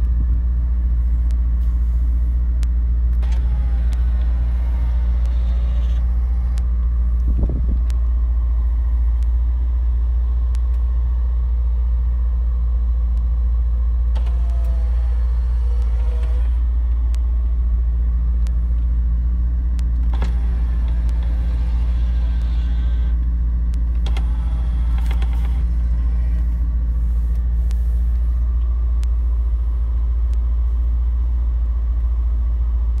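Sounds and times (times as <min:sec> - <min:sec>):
engine drone: 0:00.0 - 0:33.0
tyres on road: 0:00.0 - 0:33.0.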